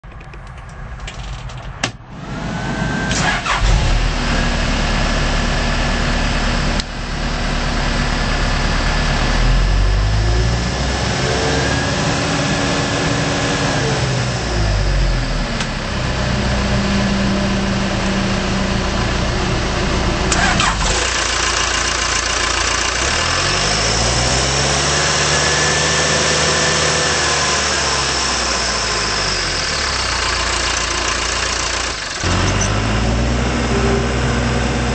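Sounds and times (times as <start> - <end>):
diesel engine starting and running: 0.0 - 34.9.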